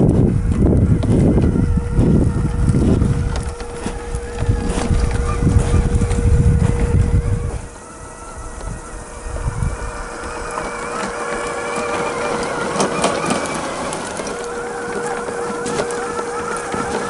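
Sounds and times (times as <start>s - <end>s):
rc car motor whine: 0.0s - 17.0s
tyres crunching on rough ground: 0.0s - 17.0s.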